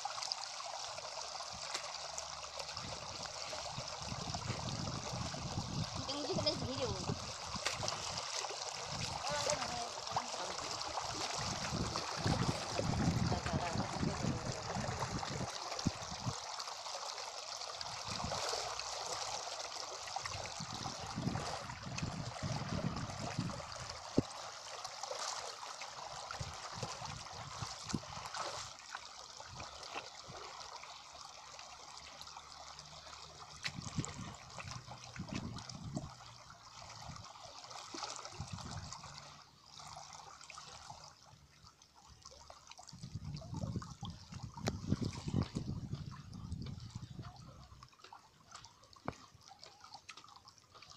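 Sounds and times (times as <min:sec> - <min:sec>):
water trickling and gurgling: 0:00.0 - 0:50.9.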